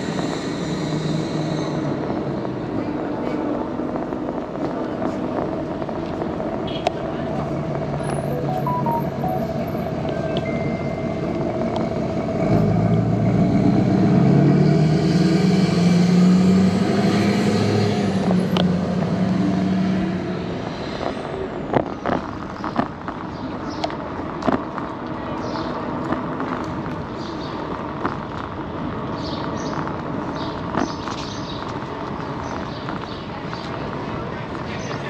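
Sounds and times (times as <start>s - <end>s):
street noise: 0.0s - 35.0s.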